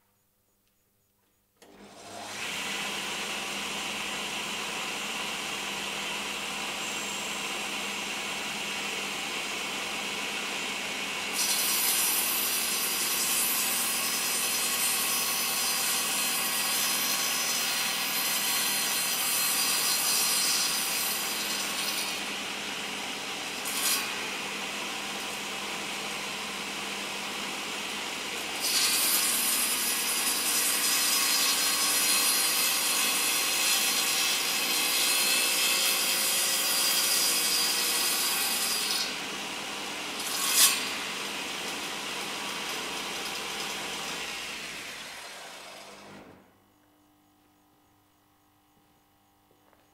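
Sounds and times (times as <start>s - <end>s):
saw blade cutting wood: 1.6s - 46.4s
table saw running: 1.6s - 46.4s.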